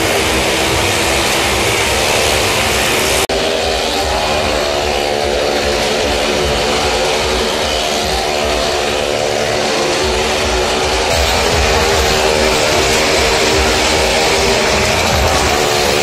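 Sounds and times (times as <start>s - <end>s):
loud engine drone: 0.0s - 16.0s.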